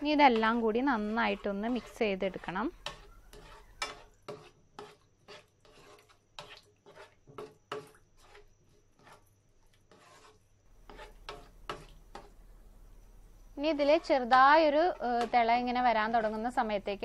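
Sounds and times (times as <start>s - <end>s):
spatula scraping a pan: 0.0s - 12.4s, 13.5s - 17.0s.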